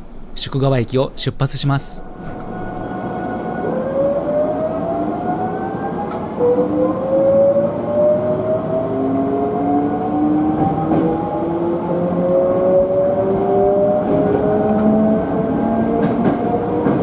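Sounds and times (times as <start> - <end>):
electric train motor whine: 2.0 - 17.0.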